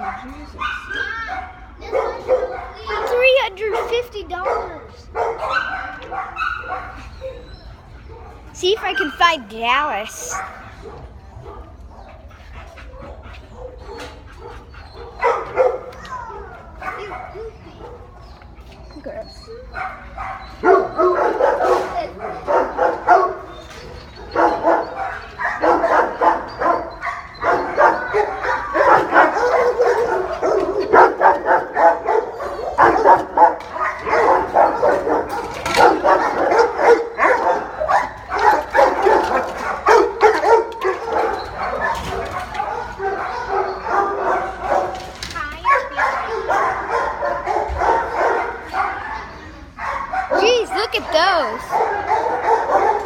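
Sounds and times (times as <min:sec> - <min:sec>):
dogs barking and yipping: 0:00.0 - 0:53.0.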